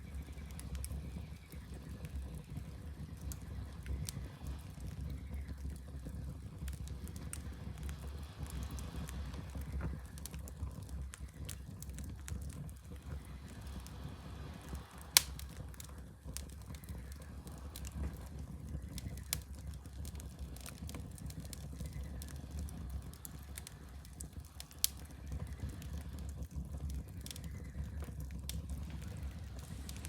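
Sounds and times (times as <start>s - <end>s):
fire crackling and popping: 0.0s - 30.0s
low rumble: 0.2s - 30.0s.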